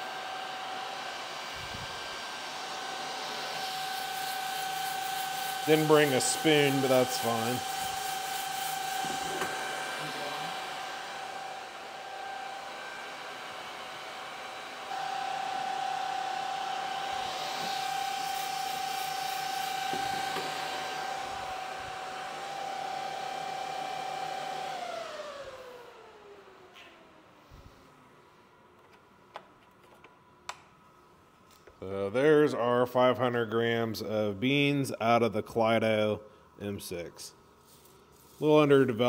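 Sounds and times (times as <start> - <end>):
roaster fan rushing with whine: 0.0 - 39.0.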